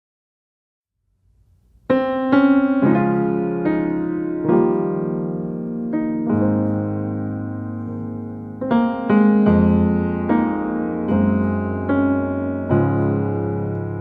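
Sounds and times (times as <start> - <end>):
slow solo piano: 1.6 - 14.0.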